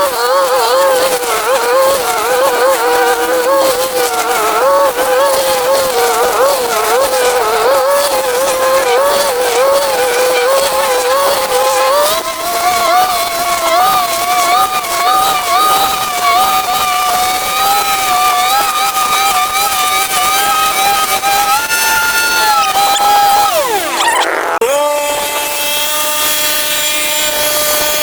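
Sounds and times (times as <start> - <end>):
small engine running at high speed: 0.0 - 28.0.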